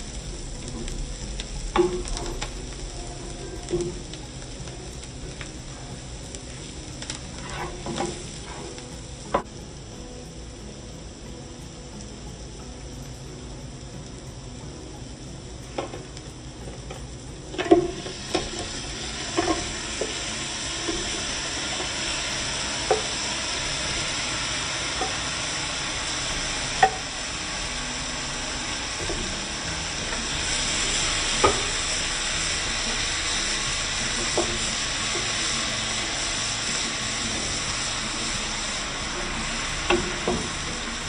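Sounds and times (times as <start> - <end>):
shrimp sizzling in oil: 0.0 - 41.0.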